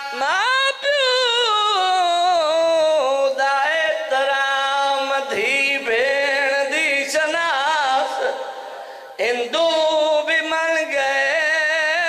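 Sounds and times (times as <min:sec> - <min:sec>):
man chanting into a microphone: 0:00.0 - 0:12.0.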